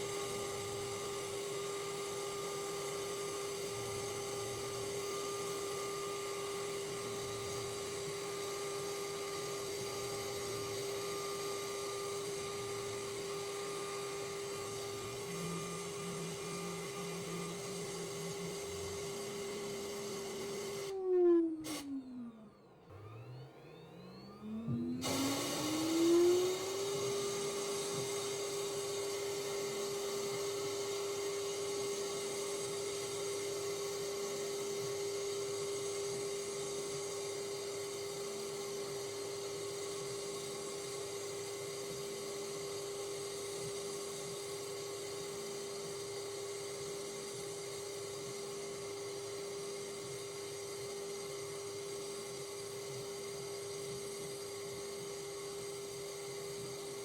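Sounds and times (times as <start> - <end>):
small electric motor whine: 0.0 - 57.0.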